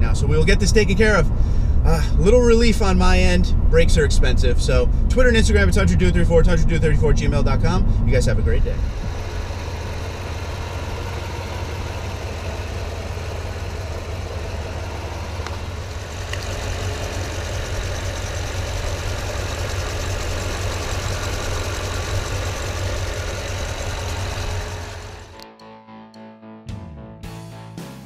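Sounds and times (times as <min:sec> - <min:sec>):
engine idling: 0:00.0 - 0:25.4.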